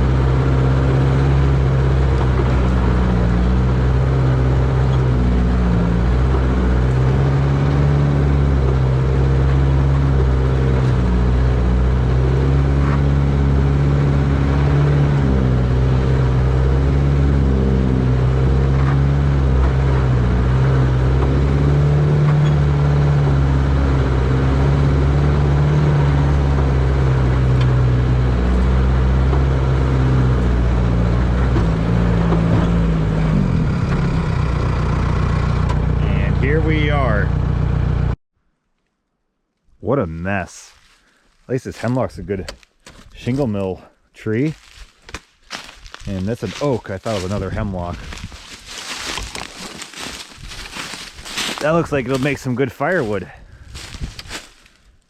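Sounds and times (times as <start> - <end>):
jeep engine running: 0.0 - 38.2, 45.5 - 54.5.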